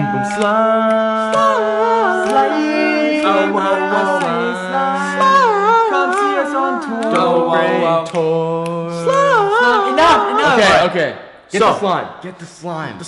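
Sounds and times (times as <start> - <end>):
men singing a cappella: 0.0 - 11.0.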